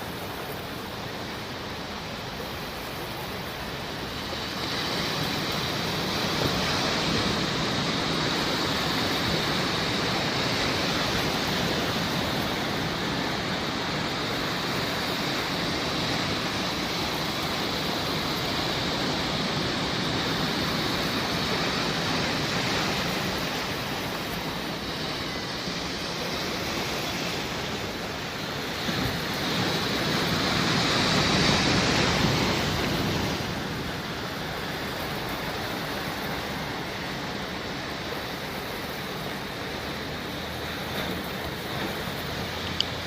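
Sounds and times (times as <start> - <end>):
sea waves washing ashore: 0.0 - 43.0.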